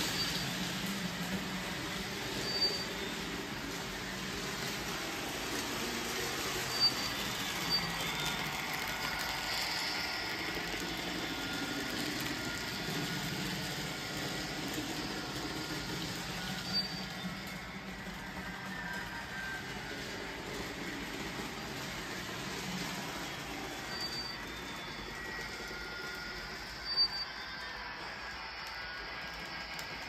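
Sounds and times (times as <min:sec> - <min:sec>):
model train rolling and humming: 0:00.0 - 0:30.0.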